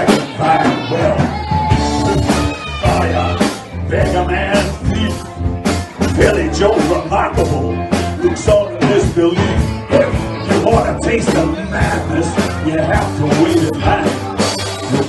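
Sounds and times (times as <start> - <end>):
man singing into a microphone: 0.0 - 1.9, 2.6 - 15.0
live blues band playing: 0.0 - 15.0.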